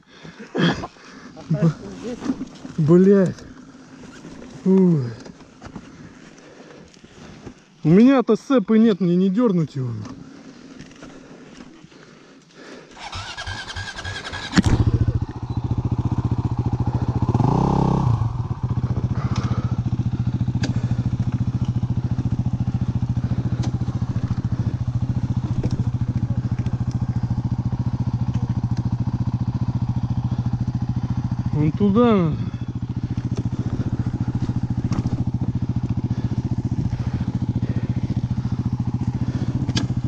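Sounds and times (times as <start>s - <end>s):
motorcycle engine starting and idling: 0.4s - 6.1s, 12.9s - 40.0s.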